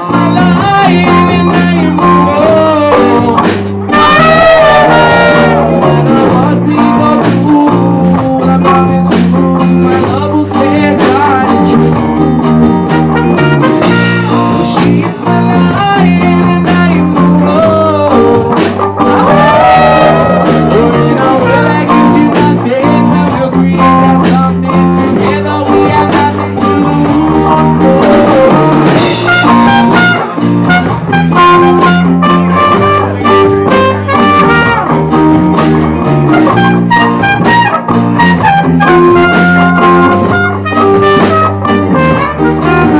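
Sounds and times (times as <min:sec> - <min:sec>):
live band playing: 0:00.0 - 0:42.9.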